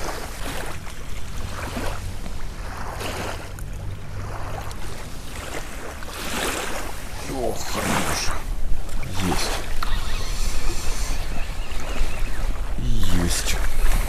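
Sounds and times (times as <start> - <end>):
lapping water: 0.0 - 14.0
low hum: 0.0 - 14.0
wind: 0.0 - 14.0.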